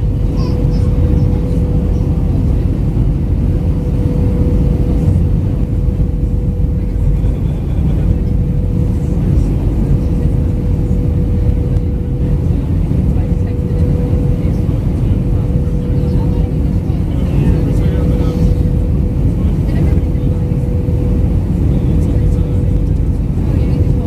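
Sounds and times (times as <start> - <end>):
airplane cabin roar: 0.0 - 24.0
constant hum: 0.0 - 24.0.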